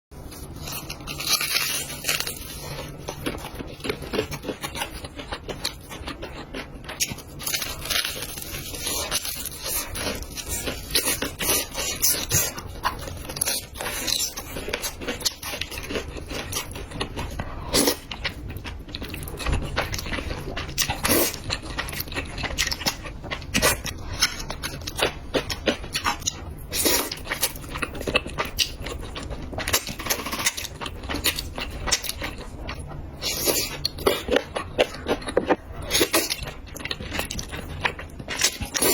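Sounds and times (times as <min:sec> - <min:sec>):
chewing and crunching: 0:00.2 - 0:38.9.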